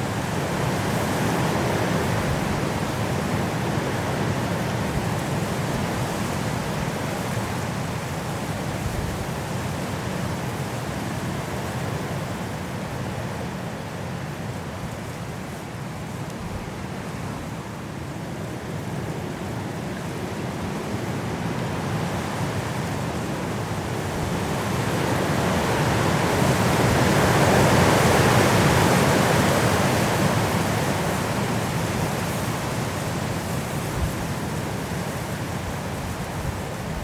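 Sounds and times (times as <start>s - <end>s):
high wind through trees: 0.0s - 37.0s.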